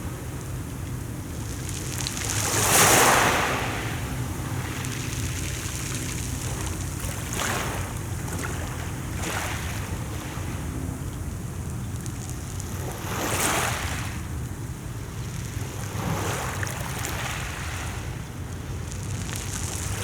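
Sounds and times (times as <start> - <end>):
waves washing onto shore: 0.0 - 20.0.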